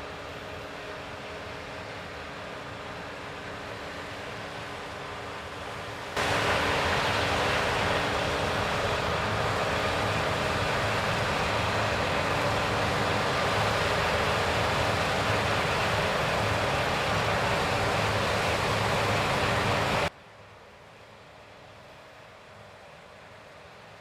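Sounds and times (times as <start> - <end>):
combine harvester running: 0.2 - 20.1.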